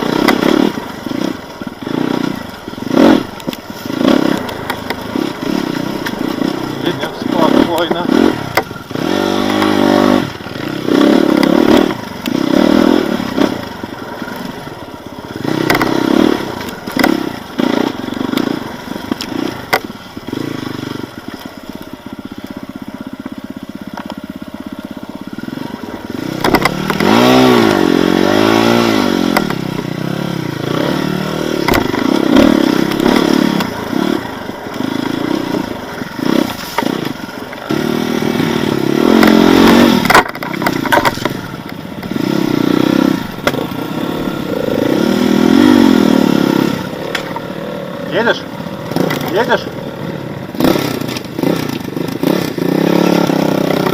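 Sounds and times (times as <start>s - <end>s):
clatter and scraping: 0.0s - 22.6s, 26.0s - 28.0s, 31.6s - 38.0s, 39.0s - 45.1s, 45.7s - 47.6s, 48.8s - 53.9s
off-road motorcycle engine revving: 0.0s - 53.9s.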